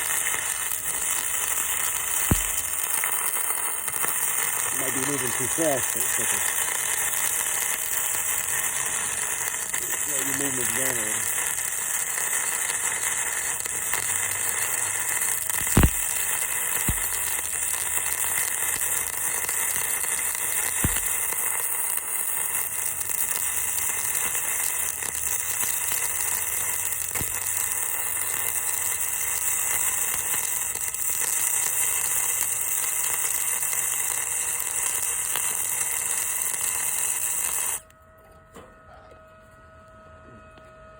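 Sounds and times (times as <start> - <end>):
welding arc hissing and sizzling: 0.0 - 37.8
welding arc pops: 0.0 - 37.8.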